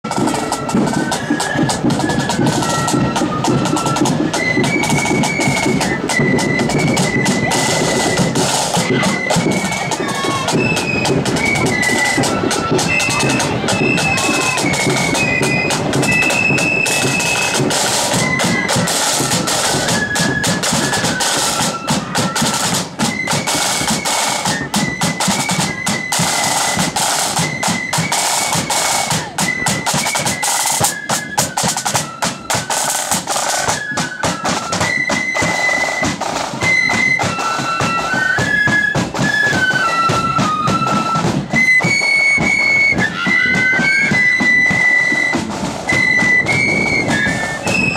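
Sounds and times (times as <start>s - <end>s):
high flute melody: 0.0s - 47.9s
snare drum rolls: 0.0s - 47.9s.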